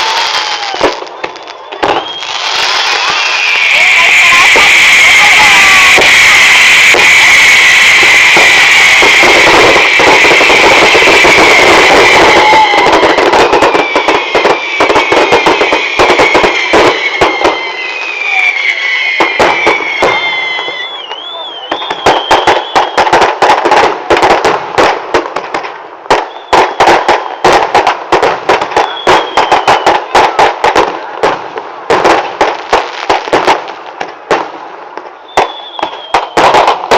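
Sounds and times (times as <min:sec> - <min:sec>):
firecrackers banging: 0:00.0 - 0:36.9
whistling fireworks: 0:00.0 - 0:36.9.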